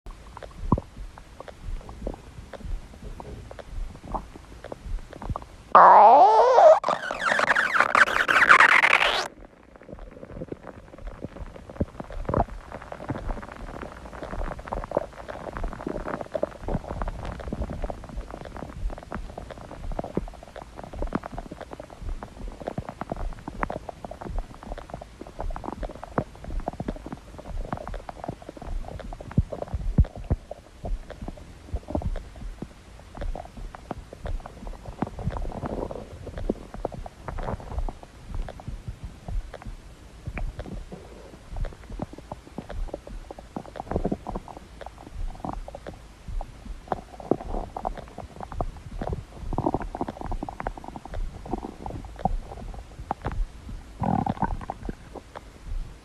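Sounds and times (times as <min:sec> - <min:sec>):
stomach growling: 0:00.1 - 0:56.0.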